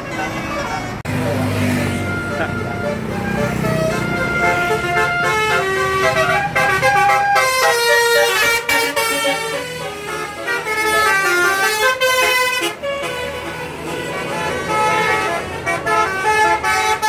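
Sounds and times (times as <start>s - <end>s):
multi-tone musical air horn: 1.8s - 17.0s.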